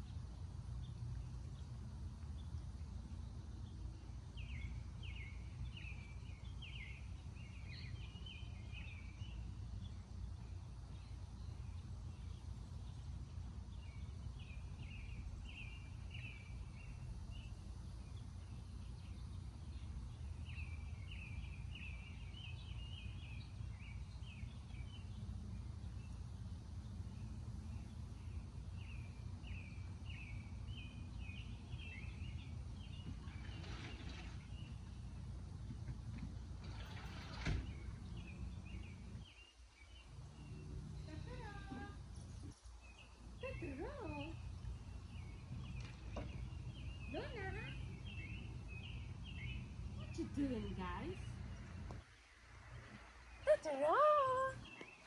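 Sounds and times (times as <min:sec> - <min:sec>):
low outdoor rumble: 0:00.0 - 0:55.0
songbird singing: 0:00.0 - 0:55.0.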